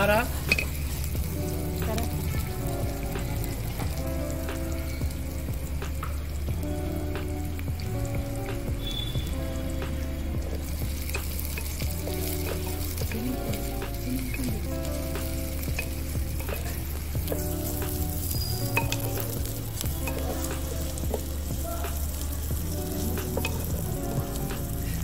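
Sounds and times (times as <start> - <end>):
background music: 0.0 - 25.0
garlic and onion sizzling in oil: 0.0 - 25.0.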